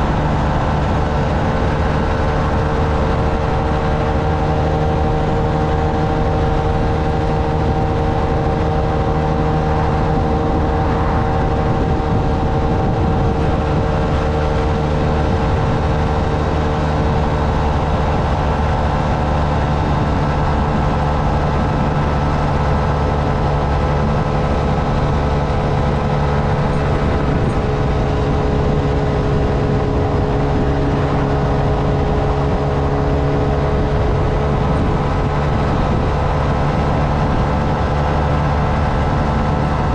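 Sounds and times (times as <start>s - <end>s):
small engine running steadily: 0.0s - 39.9s
wind and road noise: 0.0s - 39.9s.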